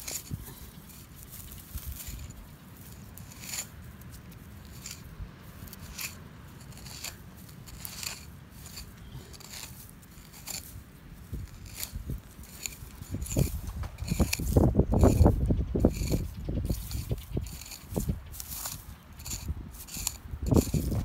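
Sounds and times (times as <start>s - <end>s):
screwdriver scraping stony soil: 0.0s - 21.0s.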